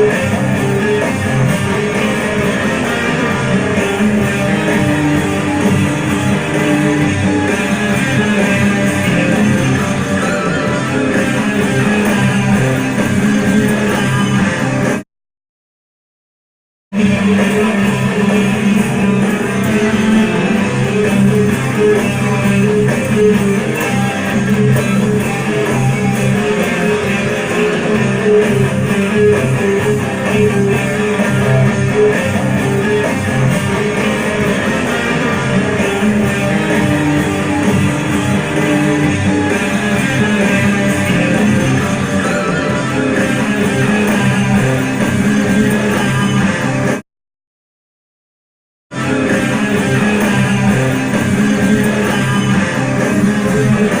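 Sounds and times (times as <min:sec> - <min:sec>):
guitar plucked and strummed: 0:00.0 - 0:15.0, 0:17.0 - 0:47.0, 0:48.9 - 0:54.0.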